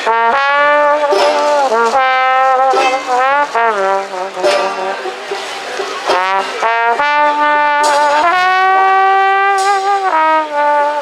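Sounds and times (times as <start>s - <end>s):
trombone jazz solo: 0.0s - 11.0s.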